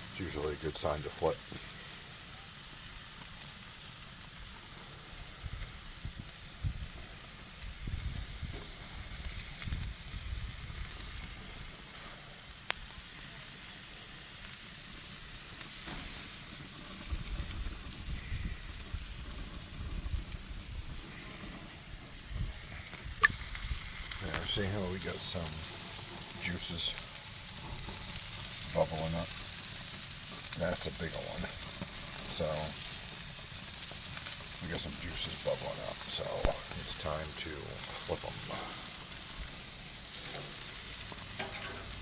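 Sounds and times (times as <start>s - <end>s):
food sizzling on a grill: 0.0s - 42.0s.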